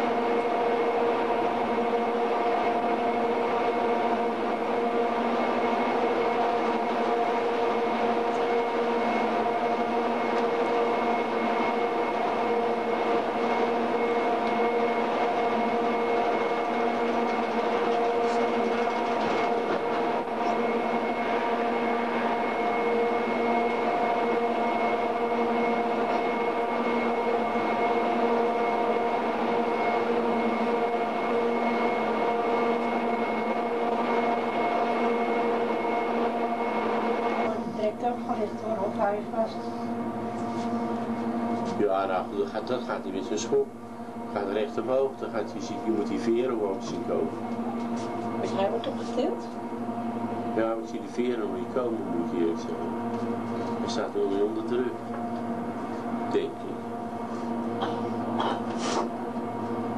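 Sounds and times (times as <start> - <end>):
steady mechanical drone: 0.0 - 59.9.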